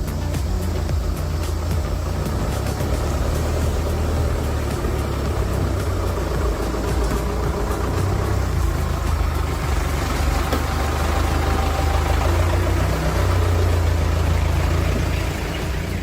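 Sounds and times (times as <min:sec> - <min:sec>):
heavy machinery engine rumbling: 0:00.0 - 0:16.0.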